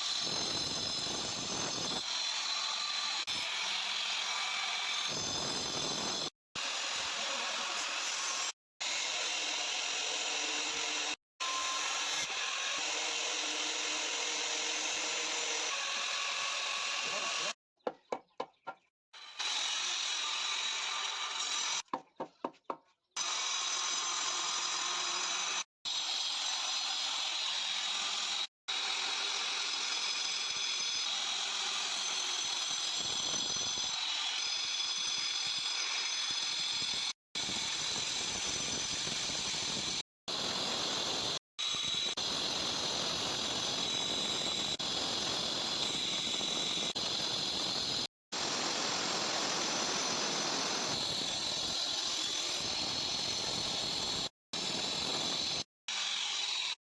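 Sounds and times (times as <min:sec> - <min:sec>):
stone-cutting blade grinding: 0:00.0 - 0:17.6, 0:19.2 - 0:21.8, 0:23.2 - 0:48.1, 0:48.7 - 0:56.8.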